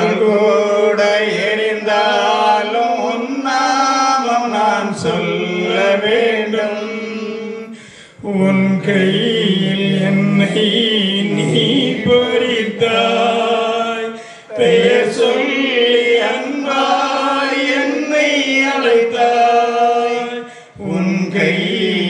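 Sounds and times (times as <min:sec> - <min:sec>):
man singing a devotional hymn: 0:00.0 - 0:22.0.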